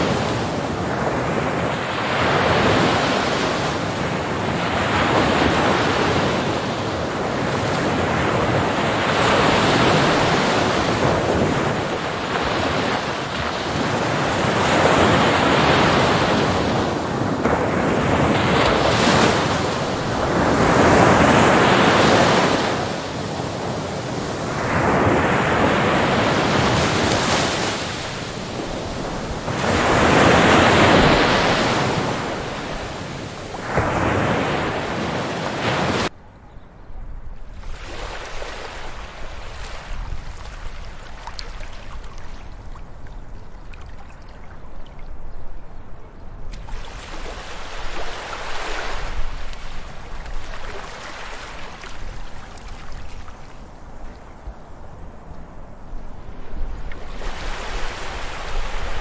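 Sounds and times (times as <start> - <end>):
ocean waves breaking on beach: 0.0 - 36.1, 37.5 - 44.9, 46.5 - 59.0.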